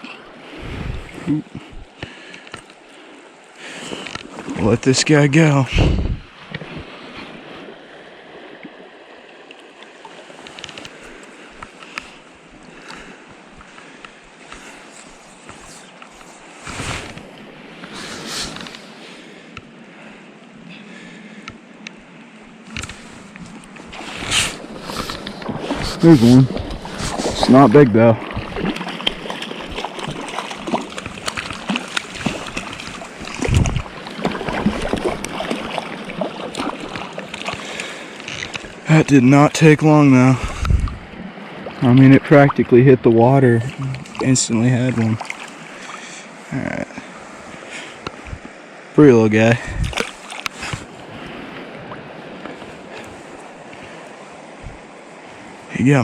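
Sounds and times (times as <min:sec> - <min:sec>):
water splashes: 0:00.0 - 0:20.2, 0:22.6 - 0:56.0
creek water rushing: 0:00.0 - 0:56.0.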